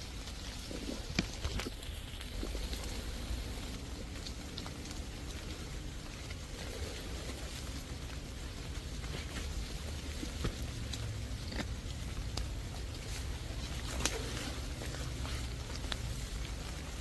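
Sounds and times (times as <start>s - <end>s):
heavy rain on leaves: 0.0s - 17.0s
sharp drip ticks: 0.2s - 17.0s.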